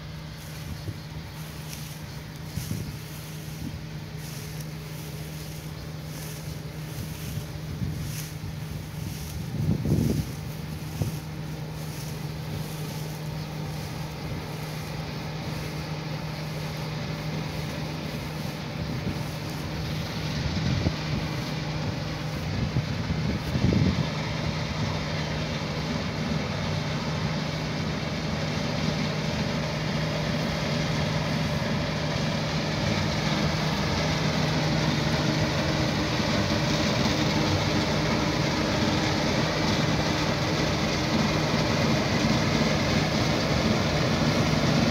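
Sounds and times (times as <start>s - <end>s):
combine harvester engine hum: 0.0s - 44.9s
threshing machinery noise: 0.0s - 44.9s.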